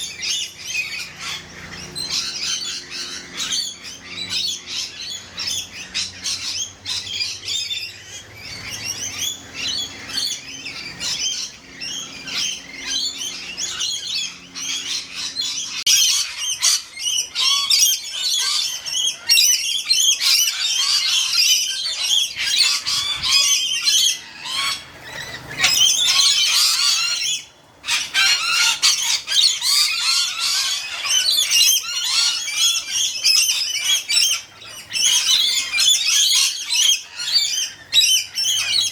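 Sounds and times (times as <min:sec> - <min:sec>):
birds screeching and chattering: 0:00.0 - 0:38.9.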